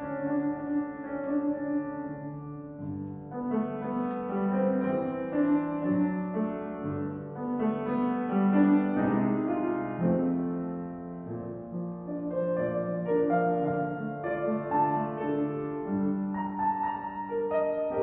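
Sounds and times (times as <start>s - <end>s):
grand piano melody: 0.0s - 18.0s.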